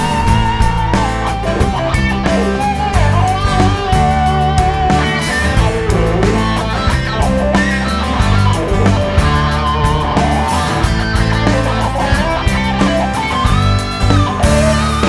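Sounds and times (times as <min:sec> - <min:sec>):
bass and drums: 0:00.0 - 0:15.0
electric guitar lead: 0:00.0 - 0:15.0.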